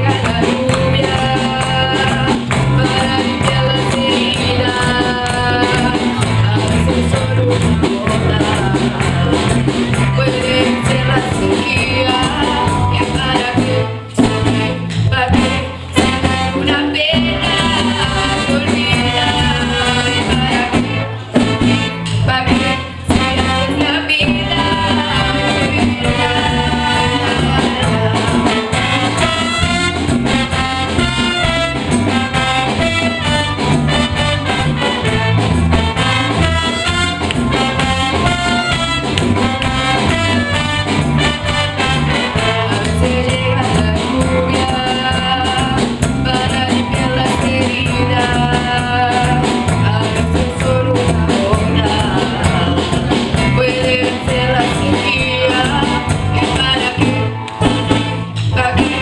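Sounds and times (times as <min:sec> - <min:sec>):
latin music with brass: 0:00.0 - 0:59.0.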